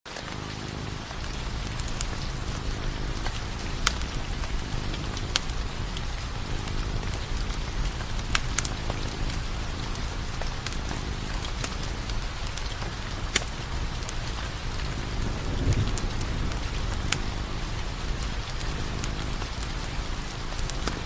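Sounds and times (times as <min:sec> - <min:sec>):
firewood crackling and popping: 0:00.1 - 0:21.0
wood fire rumbling: 0:00.1 - 0:21.0.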